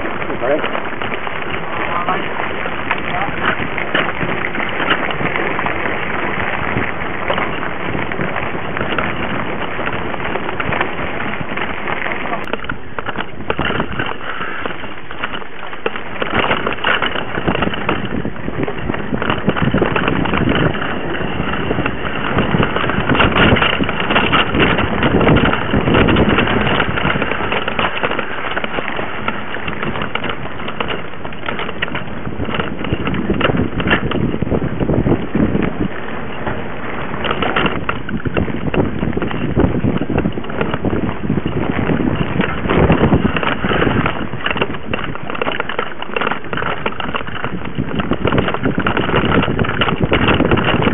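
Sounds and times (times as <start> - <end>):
bike rattling over bumps: 0.0 - 50.9
tyre noise: 0.0 - 50.9
wind on microphone: 0.0 - 50.9.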